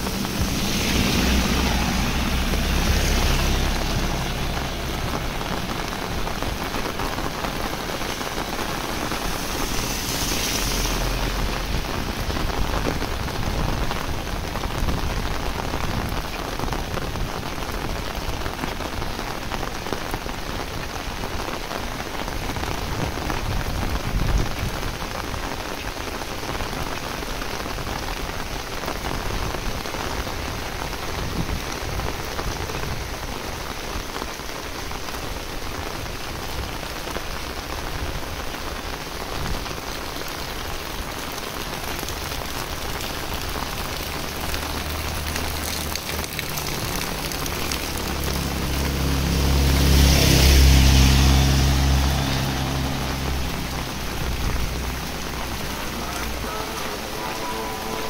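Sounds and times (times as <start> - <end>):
heavy rain on roofs: 0.0 - 58.0
vehicle passing on wet road: 0.0 - 58.0.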